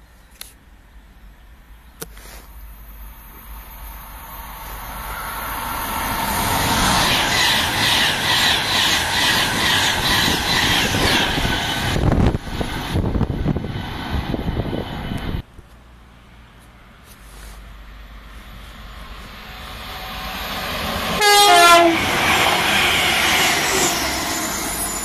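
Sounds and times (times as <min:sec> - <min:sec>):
train passing at speed: 0:02.5 - 0:17.0, 0:17.6 - 0:25.0.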